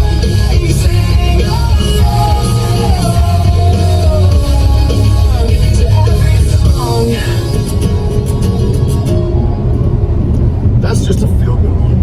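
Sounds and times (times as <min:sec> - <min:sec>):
rock song with guitar: 0:00.0 - 0:10.5.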